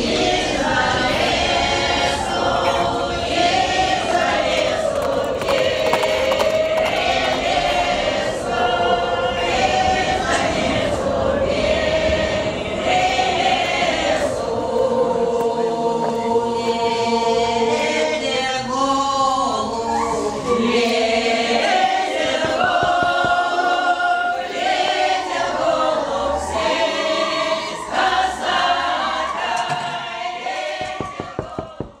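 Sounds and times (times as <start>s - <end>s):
choir singing sustained chords: 0.0s - 32.0s.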